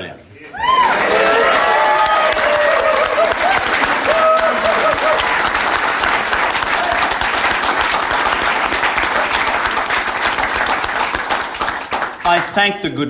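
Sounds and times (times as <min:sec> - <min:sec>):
crowd applauding: 0:00.5 - 0:12.8.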